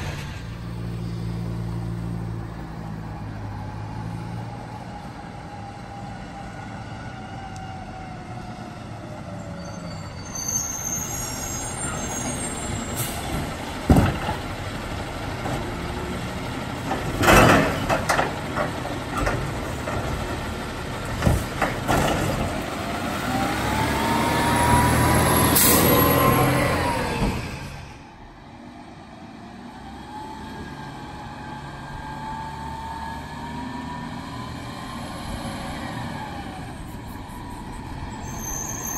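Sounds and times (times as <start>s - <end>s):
distant truck engine: 0.0s - 38.9s
garbage truck diesel engine: 0.0s - 38.9s.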